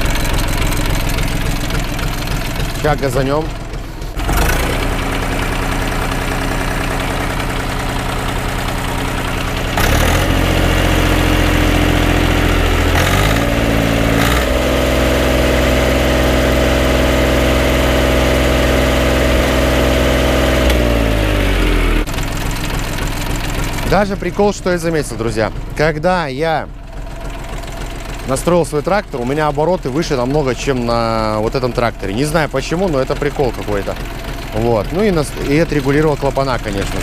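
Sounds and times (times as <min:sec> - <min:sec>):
diesel tractor engine revving: 0:00.0 - 0:37.0.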